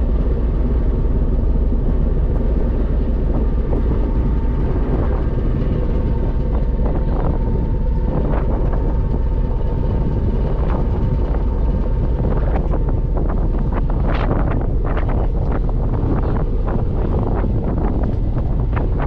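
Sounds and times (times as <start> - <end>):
faint constant whine: 0.0 - 19.0
ferry engine rumbling: 0.0 - 19.0
wind buffeting microphone: 0.0 - 19.0.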